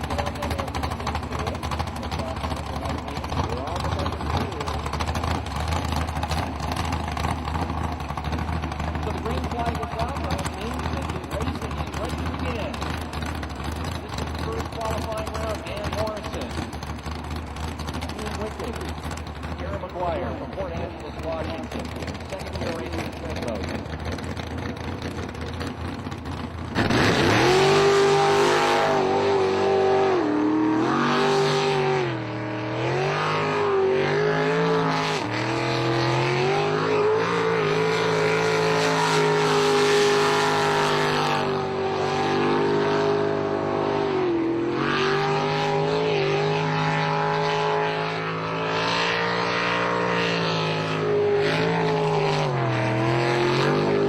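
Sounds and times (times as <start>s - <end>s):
motorboat engine: 0.0s - 54.0s.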